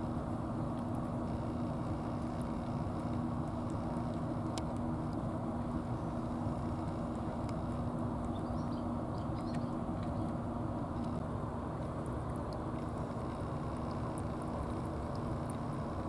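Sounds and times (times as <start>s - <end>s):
mechanical drone with low hum: 0.0s - 16.0s.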